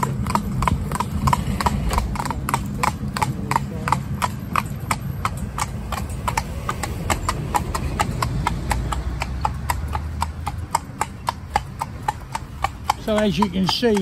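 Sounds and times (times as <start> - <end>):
hooves clip-clopping on tarmac: 0.0 - 14.0.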